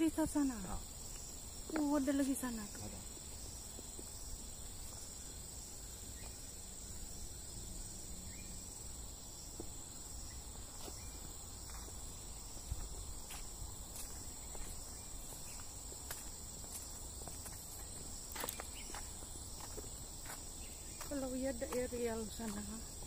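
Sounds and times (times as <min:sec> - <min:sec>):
insects shrilling: 0:00.0 - 0:23.0.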